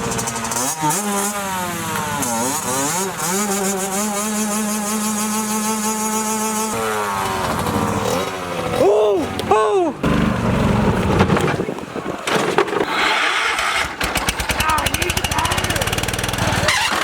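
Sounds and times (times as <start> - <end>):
small engine revving: 0.0 - 11.7, 12.8 - 17.0.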